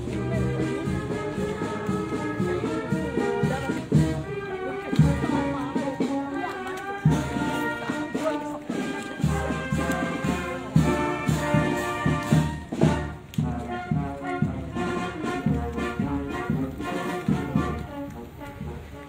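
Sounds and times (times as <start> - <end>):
brass band playing a march: 0.0 - 19.0.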